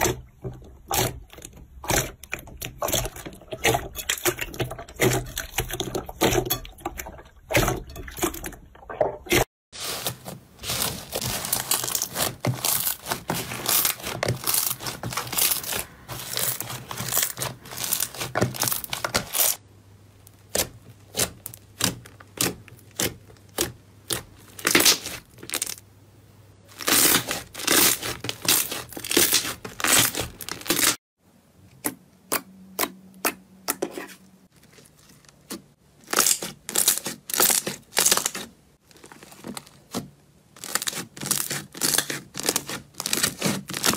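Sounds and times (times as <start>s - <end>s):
slime squelching: 0.0s - 25.8s, 26.7s - 31.0s, 31.8s - 43.9s.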